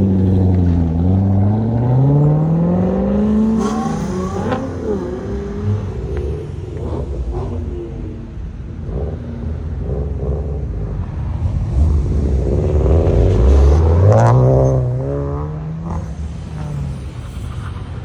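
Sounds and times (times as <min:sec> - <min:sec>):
car accelerating hard: 0:00.0 - 0:18.0
car engines running: 0:00.0 - 0:18.0.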